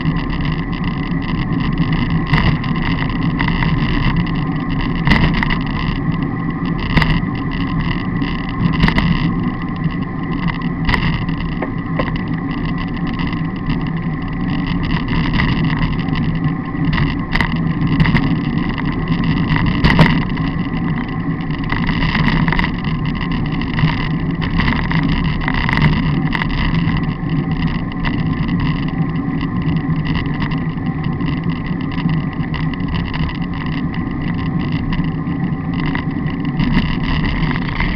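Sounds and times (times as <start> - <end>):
bicycle tyres rumbling: 0.0 - 37.9
bike knocking and rattling: 0.0 - 37.9
wind on microphone: 0.0 - 37.9.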